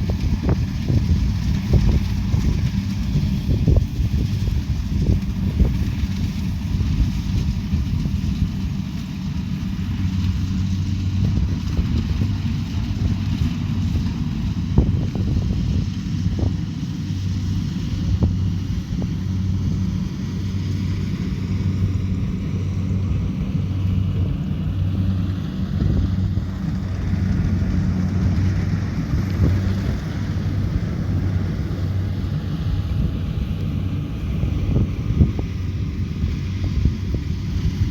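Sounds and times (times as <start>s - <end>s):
combine harvester engine droning: 0.0s - 37.9s.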